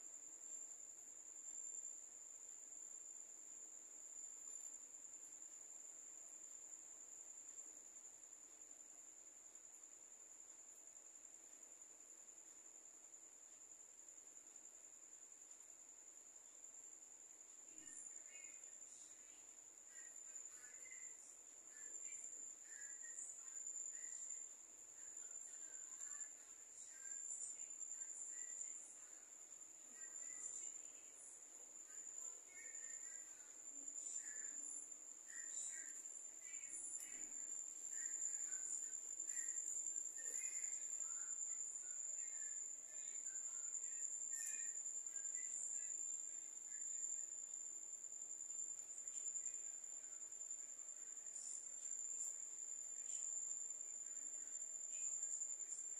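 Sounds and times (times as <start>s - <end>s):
high-pitched insect trill: 0.0s - 55.9s.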